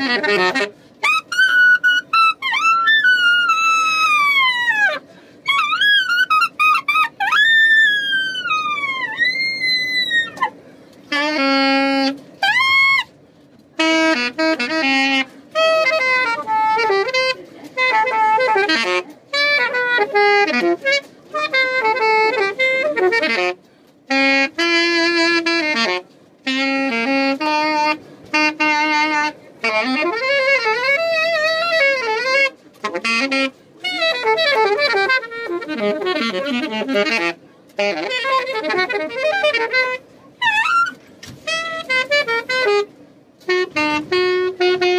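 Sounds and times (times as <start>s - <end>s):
saxophone wailing: 0.0s - 13.2s, 13.8s - 44.9s.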